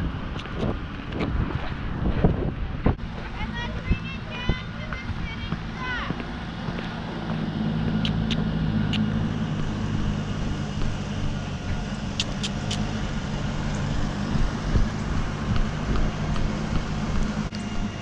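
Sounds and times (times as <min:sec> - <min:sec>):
low rumble of horse cantering: 0:00.1 - 0:18.0.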